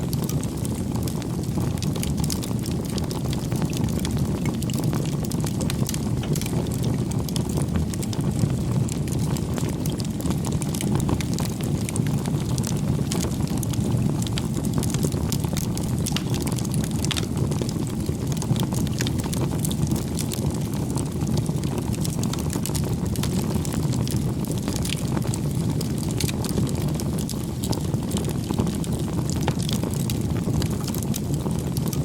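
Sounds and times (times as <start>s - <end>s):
fire crackles and pops: 0.0s - 32.0s
wood fire burning: 0.0s - 32.0s.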